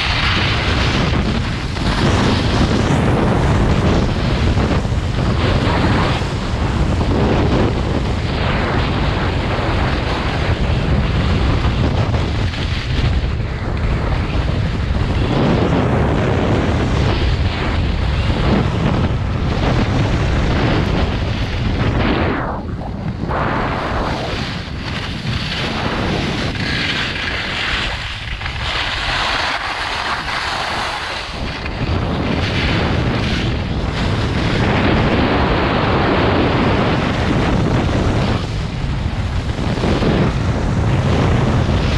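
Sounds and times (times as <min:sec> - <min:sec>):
skis carving on snow: 0:00.0 - 0:41.9
wind rushing over microphone: 0:00.0 - 0:41.9.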